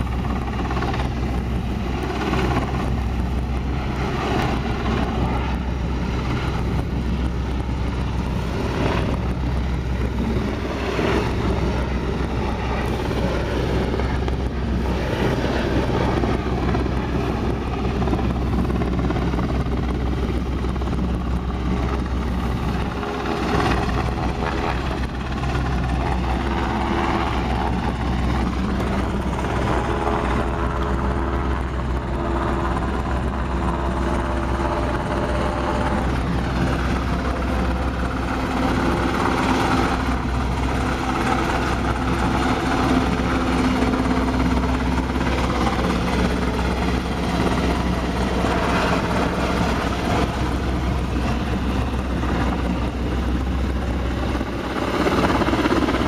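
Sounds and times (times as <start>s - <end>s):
helicopter rotor beating: 0.0s - 56.0s
wind and water rushing: 0.0s - 56.0s.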